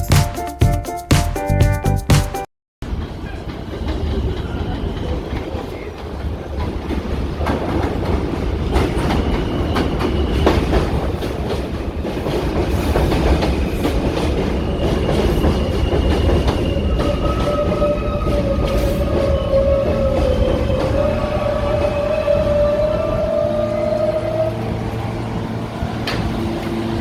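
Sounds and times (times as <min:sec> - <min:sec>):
subway train rumble: 0:02.8 - 0:27.0.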